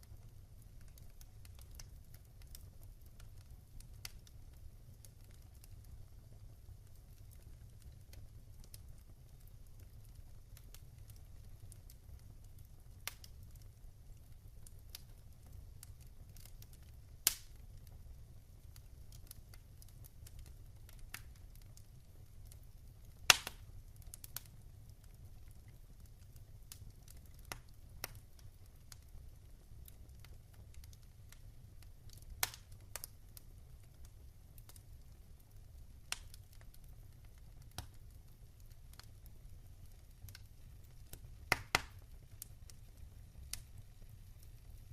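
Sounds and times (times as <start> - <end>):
sharp pops from burning logs: 0.0 - 44.9
wood fire crackling: 0.0 - 44.9.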